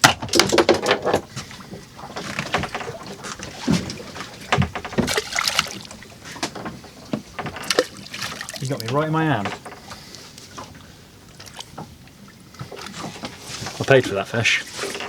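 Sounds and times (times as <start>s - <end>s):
knocks and clatter: 0.0s - 10.7s, 12.7s - 15.0s
water splashing against hull: 0.0s - 15.0s.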